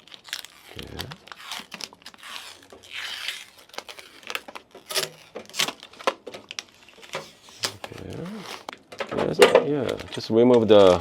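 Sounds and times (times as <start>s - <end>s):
plastic film peeling and crinkling: 0.0s - 11.0s.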